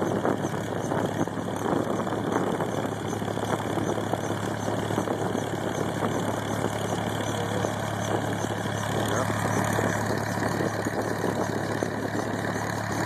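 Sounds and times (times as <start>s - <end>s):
helicopter engine idling: 0.0s - 13.0s.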